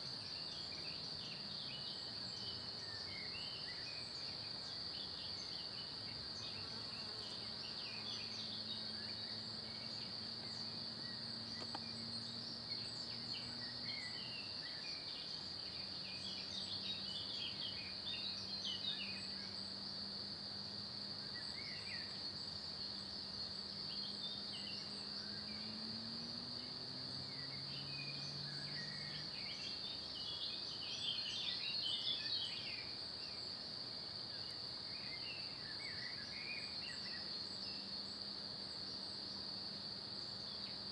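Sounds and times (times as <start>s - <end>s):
high-pitched insect whine: 0.0s - 40.9s.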